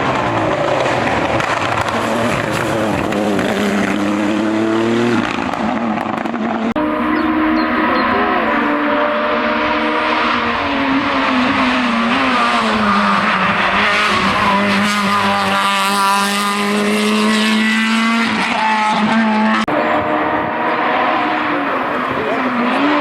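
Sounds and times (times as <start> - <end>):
another engine: 0.0 - 23.0
race car engine at high revs: 0.0 - 23.0.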